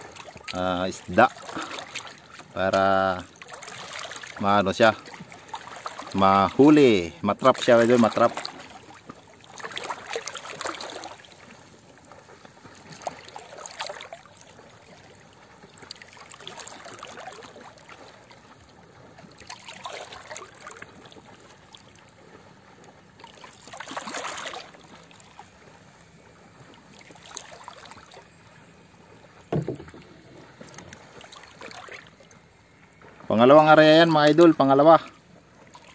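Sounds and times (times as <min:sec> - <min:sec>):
water lapping against boat: 0:00.0 - 0:35.9.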